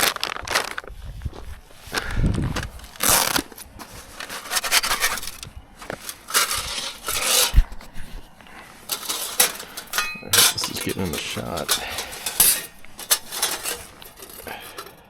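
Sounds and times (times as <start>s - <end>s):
gear rustling and scraping: 0.0s - 15.0s.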